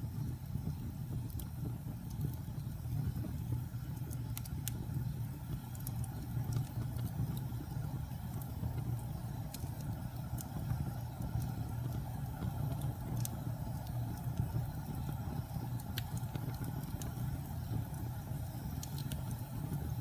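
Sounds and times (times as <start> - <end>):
fire crackles and pops: 0.0 - 20.0
fire flames rumbling: 0.0 - 20.0.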